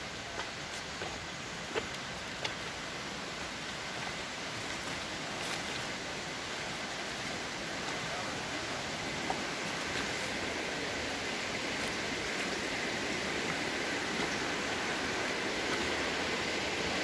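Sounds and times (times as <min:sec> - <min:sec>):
footsteps on trail: 0:00.0 - 0:17.0
river and waterfall rushing: 0:00.0 - 0:17.0.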